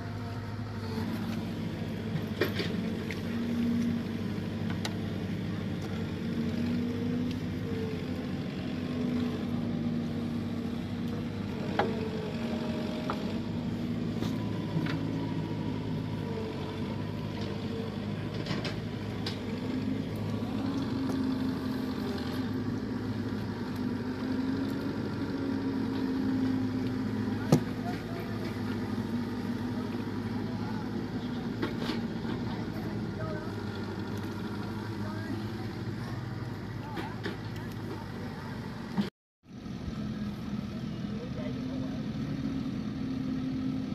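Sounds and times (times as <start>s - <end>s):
motor engine droning: 0.0s - 43.9s.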